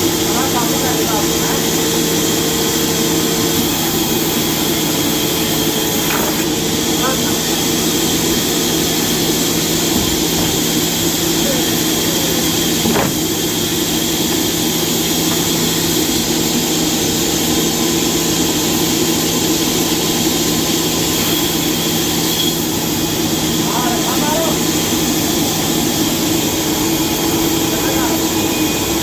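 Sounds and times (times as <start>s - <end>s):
sawmill machinery drone: 0.0s - 29.0s.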